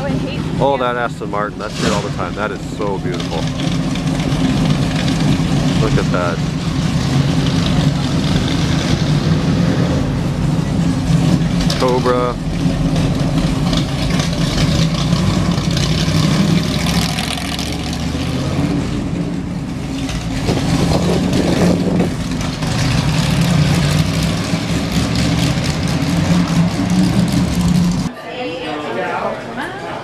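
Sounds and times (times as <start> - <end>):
car engine running: 0.0 - 28.1.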